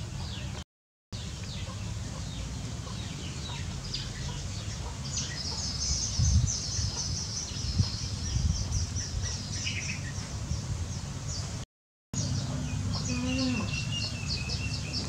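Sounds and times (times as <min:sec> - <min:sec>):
birds chirping: 0:00.0 - 0:00.6, 0:01.2 - 0:11.6, 0:12.2 - 0:15.0.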